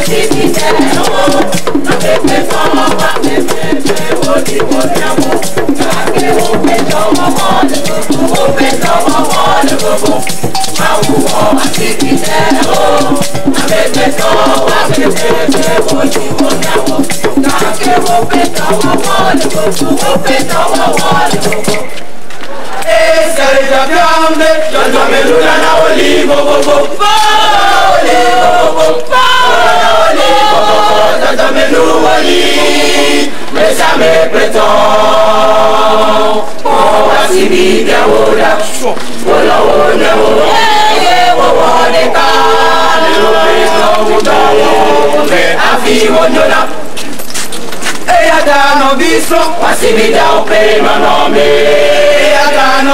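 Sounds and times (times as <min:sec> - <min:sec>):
large choir singing: 0:00.0 - 0:47.0, 0:48.0 - 0:52.9.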